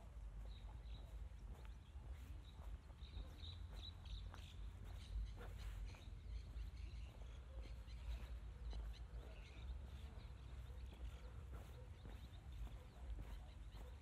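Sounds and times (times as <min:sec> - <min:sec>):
faint bird chirps: 0:00.0 - 0:14.0
footsteps on dry dirt: 0:00.0 - 0:14.0.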